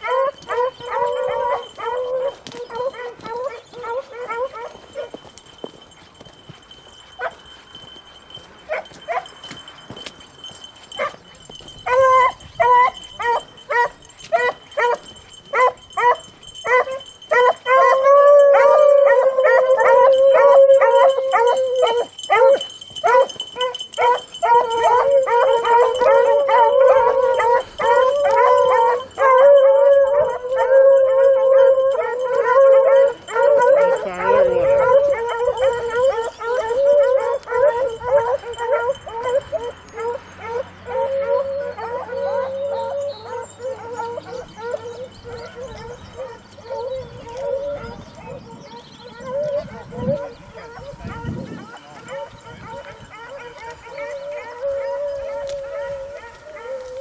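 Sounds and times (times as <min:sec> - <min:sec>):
hounds bawling: 0:00.0 - 0:05.2, 0:10.9 - 0:57.0
beagles barking: 0:00.0 - 0:05.3, 0:06.6 - 0:57.0.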